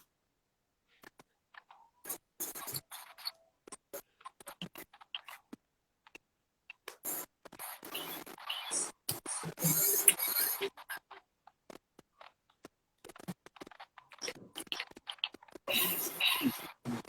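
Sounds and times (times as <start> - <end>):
scratching and rustling: 0.9 - 6.2, 6.8 - 17.0.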